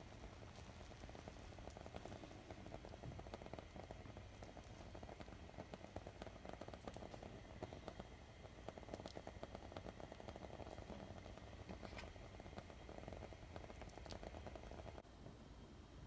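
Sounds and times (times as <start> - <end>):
milk simmering bubbles popping: 0.0 - 15.0.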